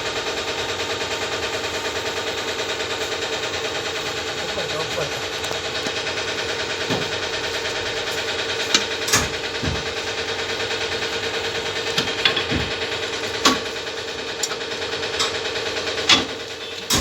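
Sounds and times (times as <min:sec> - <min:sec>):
fast mechanical clatter: 0:00.1 - 0:17.0.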